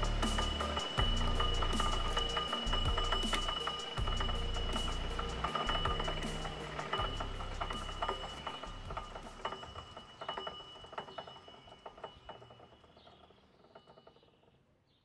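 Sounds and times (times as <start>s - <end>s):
lathe spindle whining and ticking: 0.0s - 14.6s.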